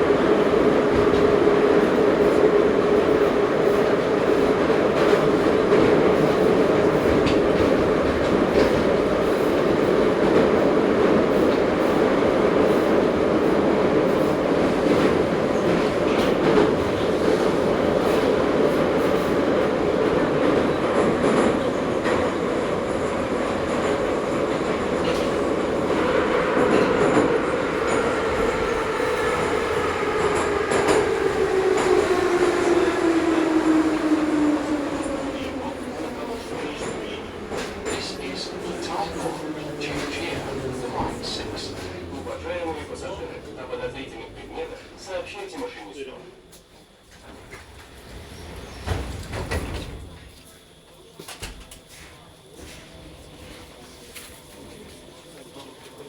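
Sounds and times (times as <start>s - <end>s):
metro train traction whine: 0.0s - 56.0s
wheel and rail rumble: 0.2s - 45.4s, 46.5s - 51.9s.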